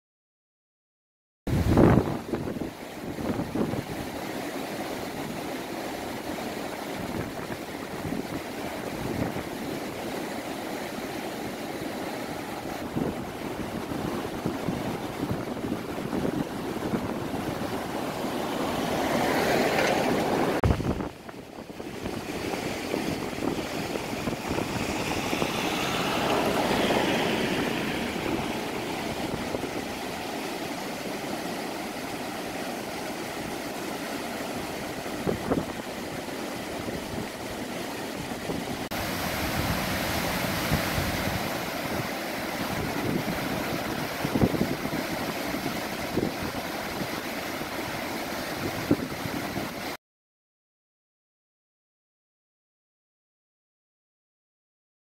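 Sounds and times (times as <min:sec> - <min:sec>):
floodwater rushing: 0:01.5 - 0:50.0.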